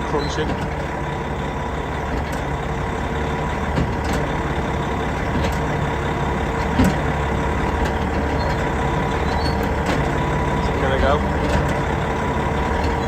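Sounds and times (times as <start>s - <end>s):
heavy diesel machinery running: 0.0s - 13.0s.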